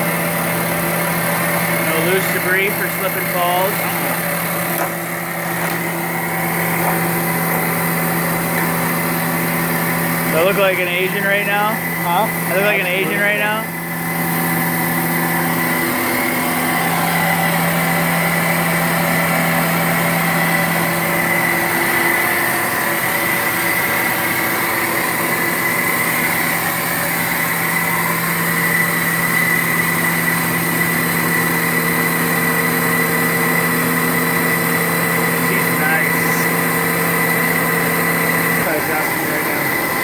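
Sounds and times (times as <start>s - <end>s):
wood lathe humming and whining: 0.0s - 40.0s.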